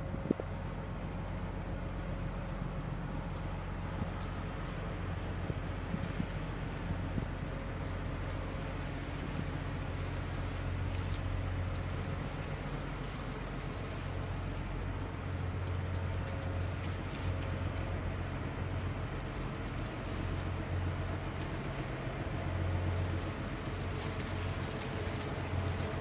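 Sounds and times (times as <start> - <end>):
ship engine droning: 0.0 - 26.0.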